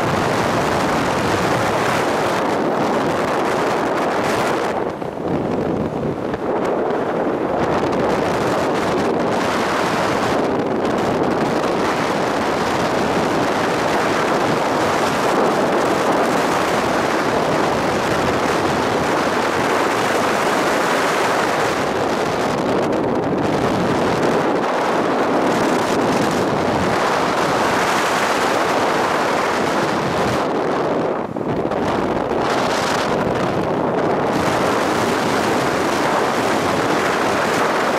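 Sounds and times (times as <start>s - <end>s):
motorcycle engine and road noise: 0.0s - 37.9s
wind rushing over microphone: 0.0s - 37.9s.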